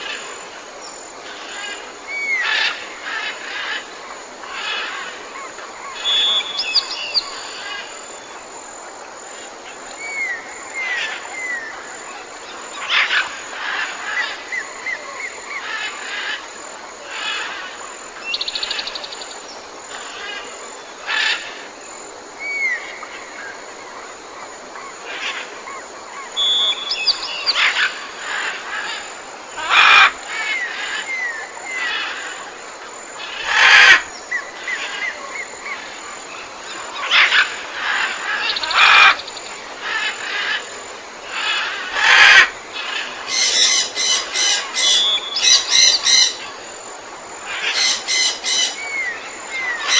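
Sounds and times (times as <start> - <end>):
steady outdoor hiss: 0.0 - 49.9
birds chirping and trilling: 1.2 - 8.5, 9.7 - 49.9.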